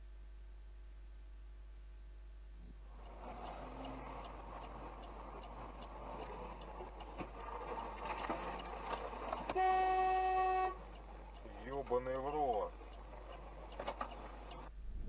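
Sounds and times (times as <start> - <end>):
faint ticks and clicks: 2.6 - 15.0
car road and engine noise: 2.8 - 15.0.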